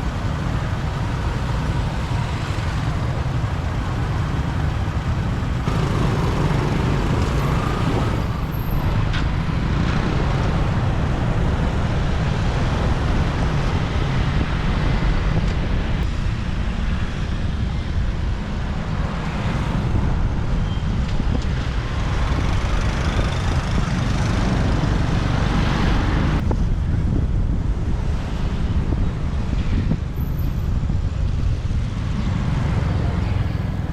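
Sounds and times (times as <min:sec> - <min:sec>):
city traffic noise: 0:00.0 - 0:33.9
motorbike riding: 0:00.0 - 0:33.9.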